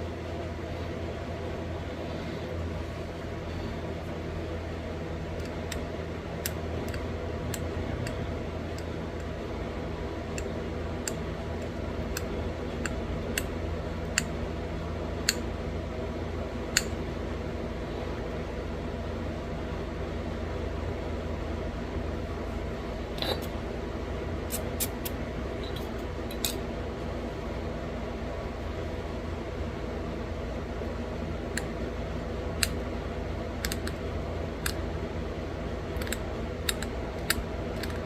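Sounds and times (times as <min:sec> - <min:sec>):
steady background hum: 0:00.0 - 0:38.0.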